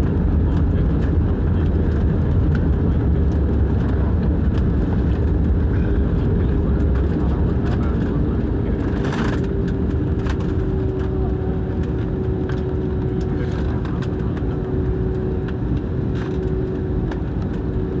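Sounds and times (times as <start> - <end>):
airliner engines rumbling: 0.0 - 18.0.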